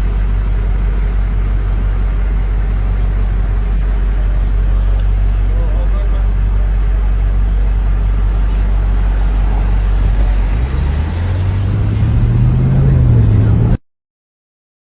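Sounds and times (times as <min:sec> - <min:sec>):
higher engine hum: 0:00.0 - 0:13.8
motor vehicle engine rumble: 0:00.0 - 0:13.8.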